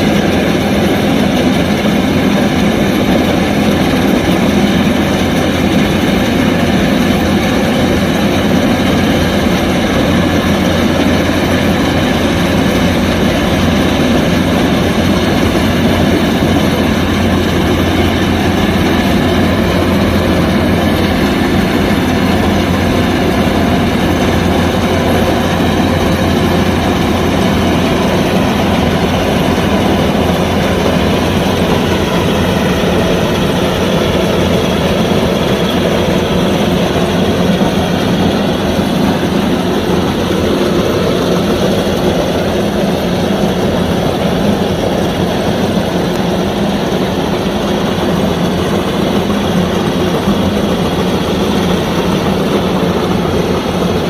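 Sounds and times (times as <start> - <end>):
diesel engine drone: 0.0 - 54.0
threshing machinery: 0.0 - 54.0.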